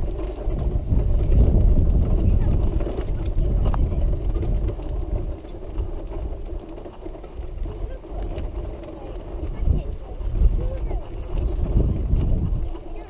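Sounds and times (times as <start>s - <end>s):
wheelchair wheels rumbling: 0.0s - 13.0s
wind buffeting microphone: 0.0s - 13.0s.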